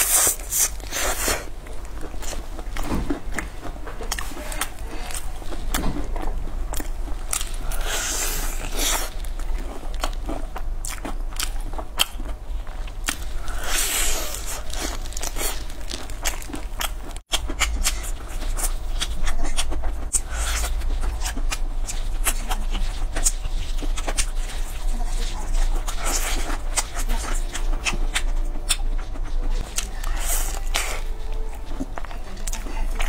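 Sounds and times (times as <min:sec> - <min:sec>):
crunching and chewing fried chicken: 0:00.0 - 0:33.0.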